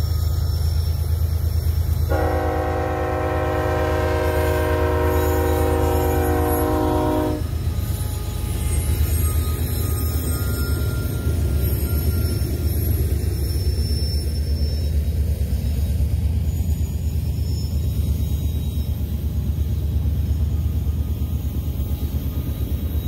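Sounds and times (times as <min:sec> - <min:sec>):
diesel locomotive passing: 0:00.0 - 0:23.0.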